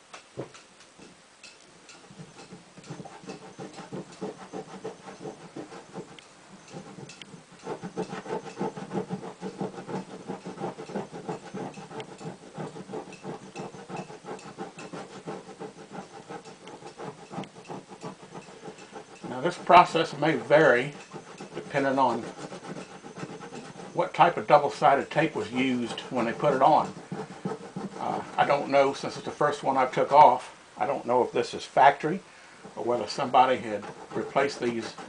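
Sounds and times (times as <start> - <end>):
cloth rag scrubbing: 2.2 - 30.1, 32.6 - 35.0.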